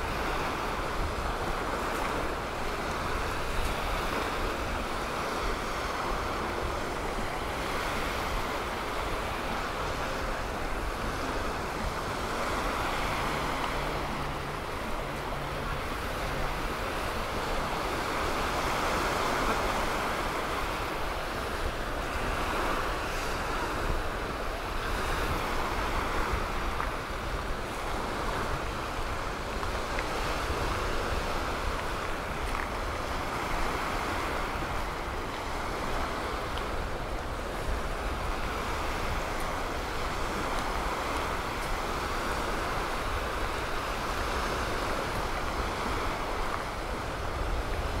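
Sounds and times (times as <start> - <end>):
surf on sandy beach: 0.0 - 48.0
wind rumbling on microphone: 0.0 - 48.0.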